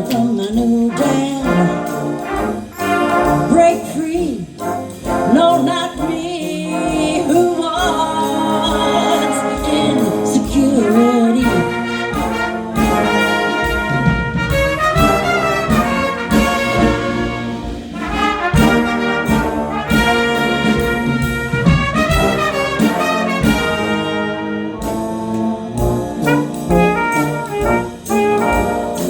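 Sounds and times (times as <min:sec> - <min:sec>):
big band brass jazz: 0:00.0 - 0:29.0.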